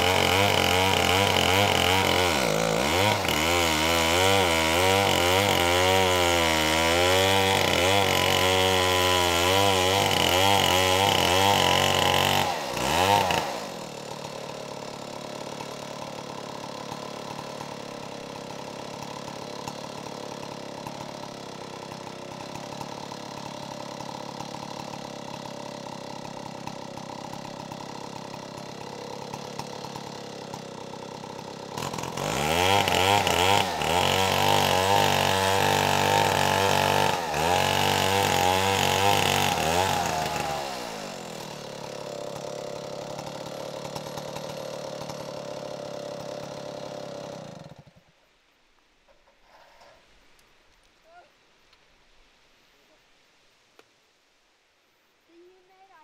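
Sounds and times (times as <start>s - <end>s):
chainsaw cutting log: 0.0s - 48.2s, 49.1s - 51.2s.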